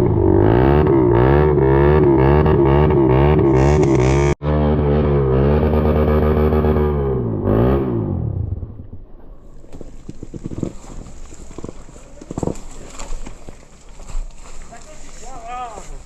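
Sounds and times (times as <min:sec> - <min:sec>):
off-road motorcycle engine revving: 0:00.0 - 0:09.0, 0:09.7 - 0:14.3.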